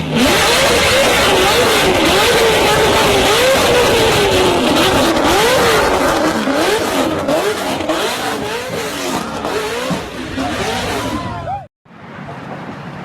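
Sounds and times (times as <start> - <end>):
engine exhaust revving: 0.0 - 11.5.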